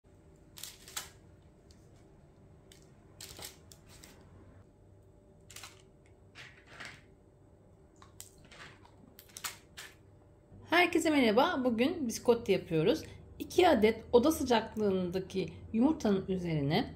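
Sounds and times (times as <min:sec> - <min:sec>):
faint room hum: 0:00.1 - 0:16.9.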